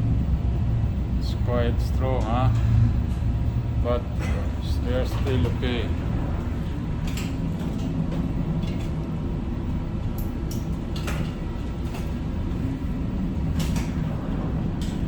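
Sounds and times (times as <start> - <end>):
ship low rumble: 0.0 - 15.0.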